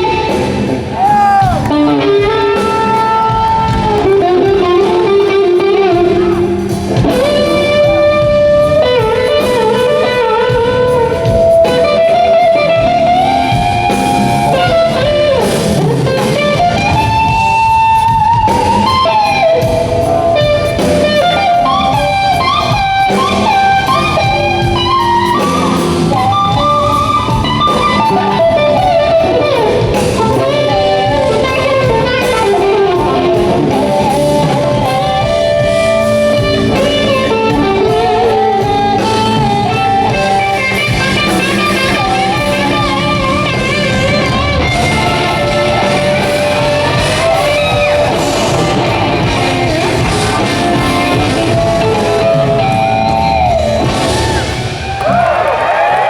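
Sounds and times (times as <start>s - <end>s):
electric guitar lead with bent notes: 0.0s - 55.4s
blues-rock band playing: 0.0s - 56.0s.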